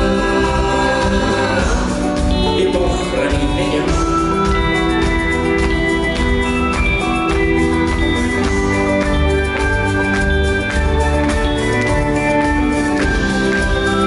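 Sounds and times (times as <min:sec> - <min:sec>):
rock band playing instrumental: 0:00.0 - 0:14.0.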